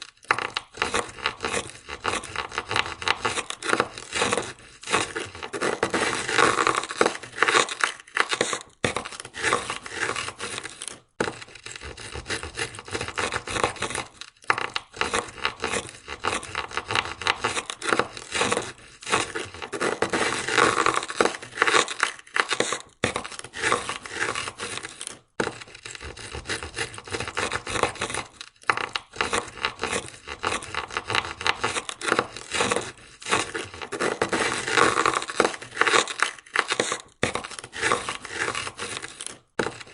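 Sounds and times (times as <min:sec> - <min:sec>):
ice scraper scraping window: 0:00.0 - 0:39.9.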